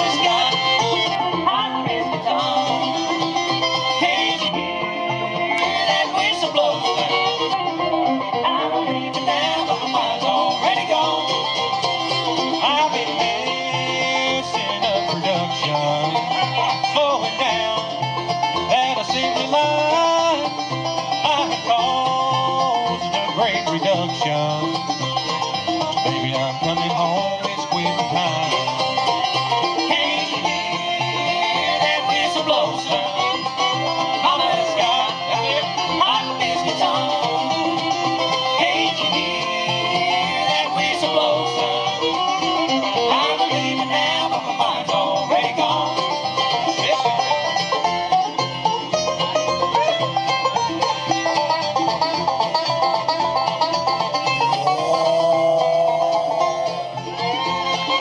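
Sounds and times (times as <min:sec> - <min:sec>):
bluegrass band playing: 0:00.0 - 0:58.0
guitar: 0:00.0 - 0:58.0
rolling banjo: 0:00.0 - 0:58.0.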